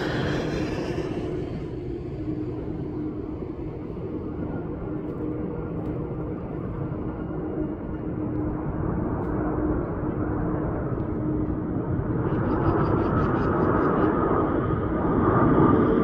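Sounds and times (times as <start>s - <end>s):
high engine whine: 0.0s - 16.0s
jet airliner engine noise: 0.0s - 16.0s.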